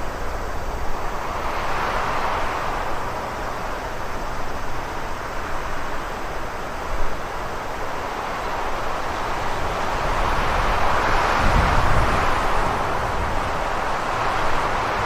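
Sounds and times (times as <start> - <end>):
rushing wind: 0.0 - 15.0.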